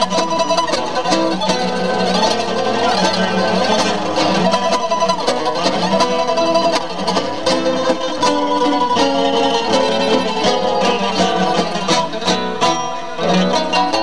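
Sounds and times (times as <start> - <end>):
acoustic guitars playing tango: 0.0 - 14.0.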